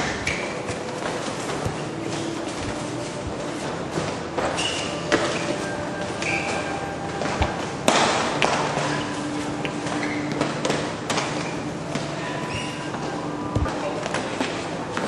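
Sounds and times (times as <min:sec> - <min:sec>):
shuffling footwork: 0:00.0 - 0:15.0.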